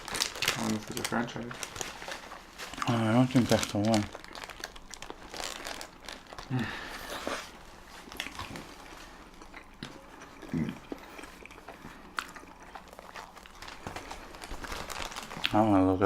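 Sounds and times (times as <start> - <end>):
chewing food: 0.0 - 15.7.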